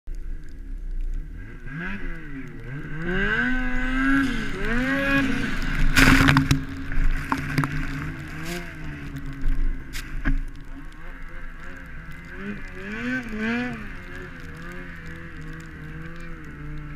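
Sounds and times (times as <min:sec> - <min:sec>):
snowmobile engine revving: 0:01.3 - 0:16.9.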